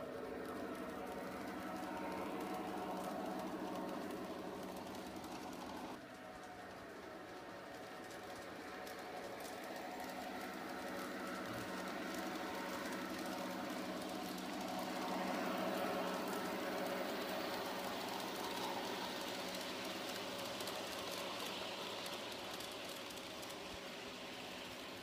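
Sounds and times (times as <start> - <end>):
model train motor hum: 0.0 - 25.0
model train wheels rumbling: 0.0 - 25.0.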